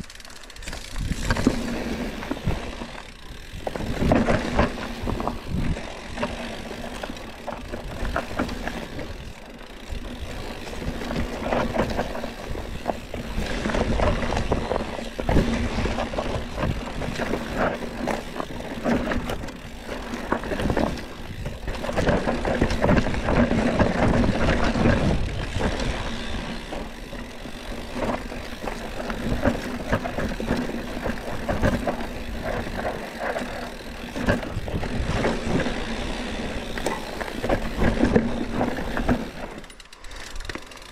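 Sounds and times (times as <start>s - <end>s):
bike tyres crunching over soil: 0.0s - 40.9s.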